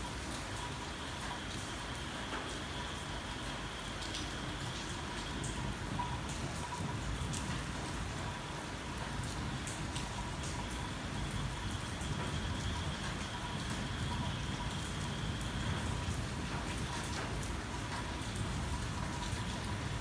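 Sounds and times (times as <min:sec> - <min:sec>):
rain on car roof: 0:00.0 - 0:20.0
raindrops ticking: 0:00.0 - 0:20.0.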